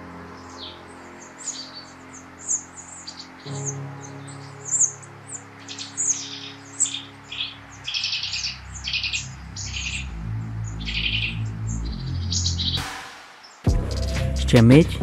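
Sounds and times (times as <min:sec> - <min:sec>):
songbirds chirping and trilling: 0:00.0 - 0:13.7
soft background music: 0:00.0 - 0:15.0.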